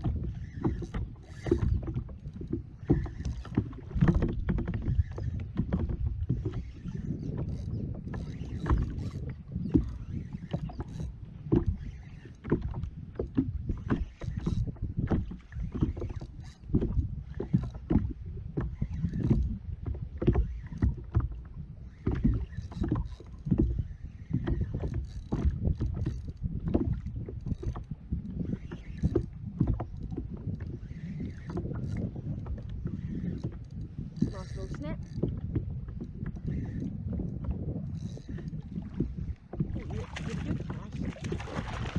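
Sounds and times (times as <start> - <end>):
water slapping hull: 0.0 - 41.9.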